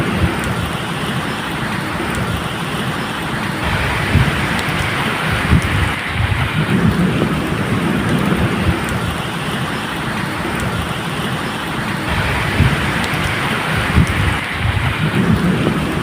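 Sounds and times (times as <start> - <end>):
distant thunder rumbling: 0.0 - 16.0
steady rain falling: 0.0 - 16.0.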